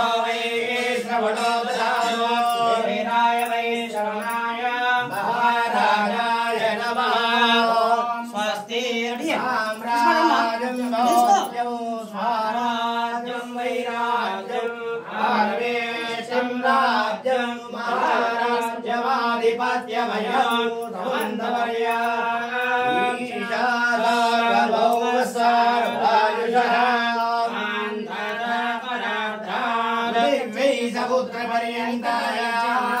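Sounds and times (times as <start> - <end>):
voices chanting a hymn: 0.0 - 33.0.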